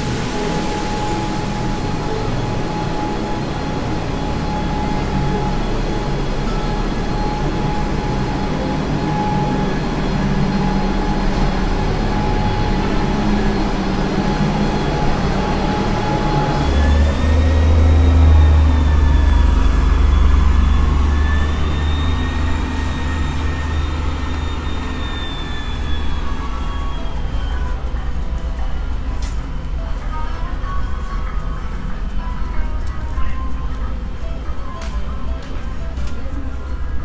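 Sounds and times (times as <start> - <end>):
vehicle engine running with whine: 0.0 - 37.0.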